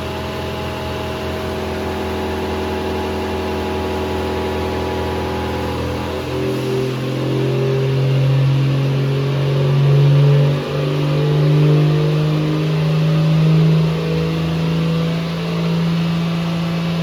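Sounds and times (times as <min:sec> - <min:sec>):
car engine at raised revs: 0:00.0 - 0:17.0.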